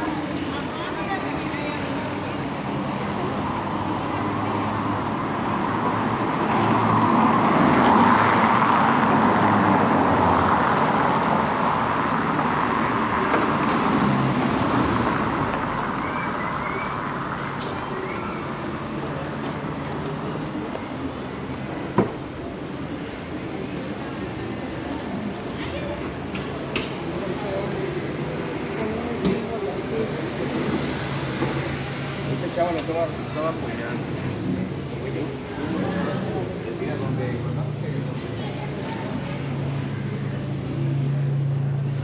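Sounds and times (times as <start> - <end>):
motor vehicles passing: 0.0 - 42.0.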